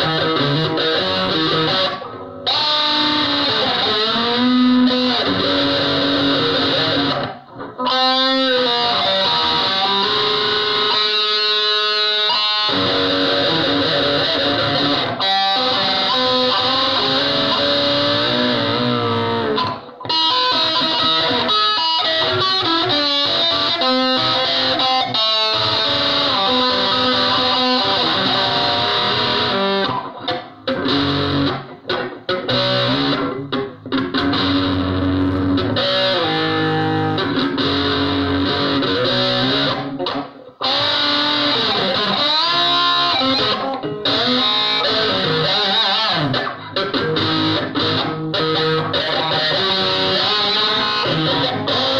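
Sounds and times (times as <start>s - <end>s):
distorted electric guitar: 0.0s - 51.9s.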